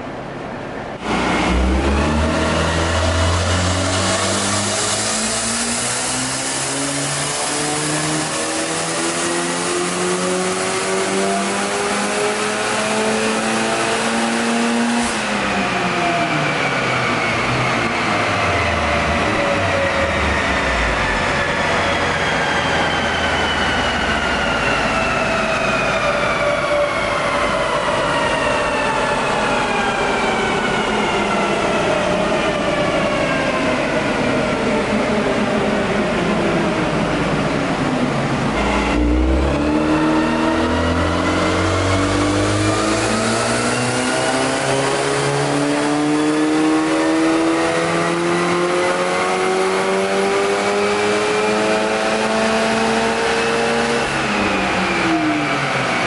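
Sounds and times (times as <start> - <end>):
car engine on a dyno: 0.0 - 56.0.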